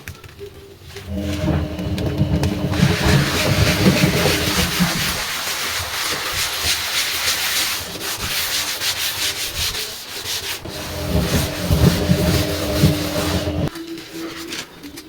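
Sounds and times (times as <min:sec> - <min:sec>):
hand scrubbing a surface: 0:01.0 - 0:13.7.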